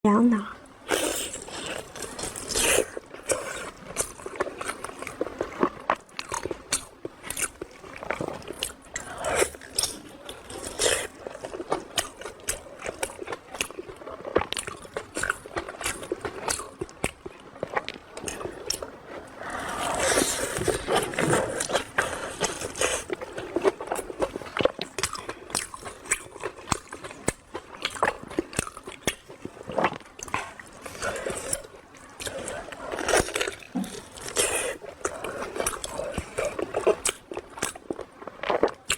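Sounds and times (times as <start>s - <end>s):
crunchy chewing: 0.8s - 38.9s.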